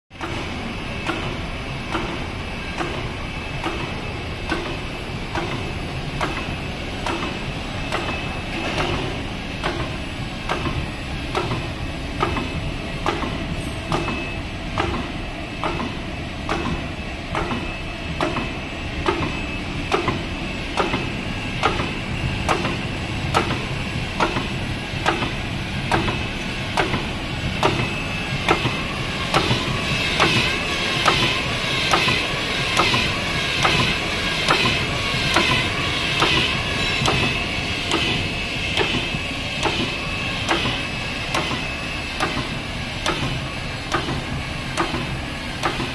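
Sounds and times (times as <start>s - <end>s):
machine hum with high whine: 0.1s - 45.9s.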